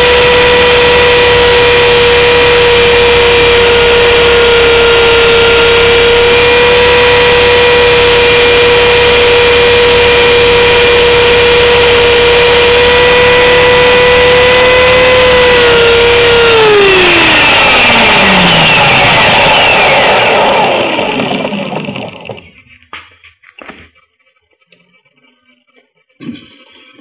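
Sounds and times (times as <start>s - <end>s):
helicopter motor high whine: 0.0s - 22.8s.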